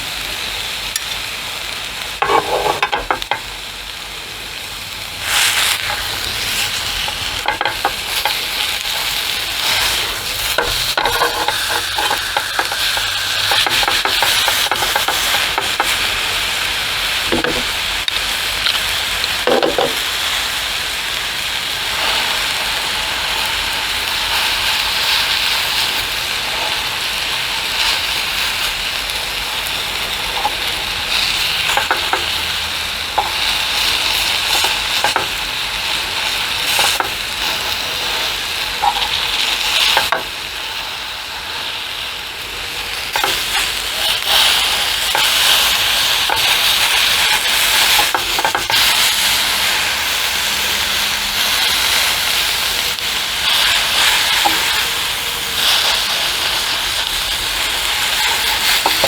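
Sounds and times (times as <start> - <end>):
steak sizzling in a pan: 0.0 - 59.0.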